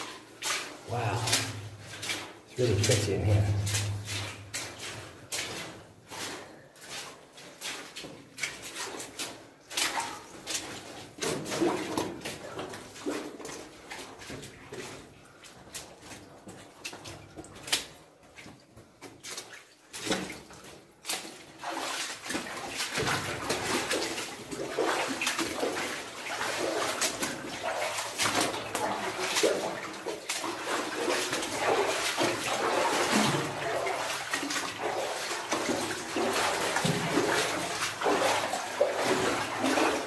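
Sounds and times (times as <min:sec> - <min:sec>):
water sloshing and splashing: 0:00.0 - 0:40.0.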